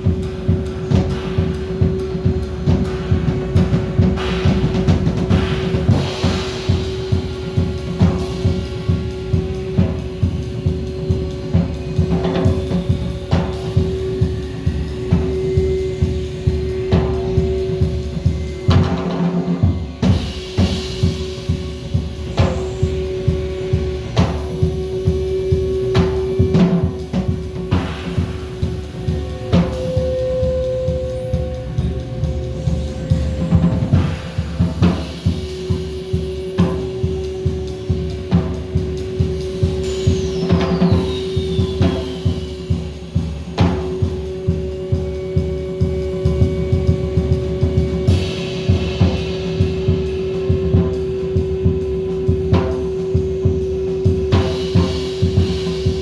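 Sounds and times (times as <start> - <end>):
drum kit steady beat: 0.0 - 56.0
long held tones: 0.0 - 56.0.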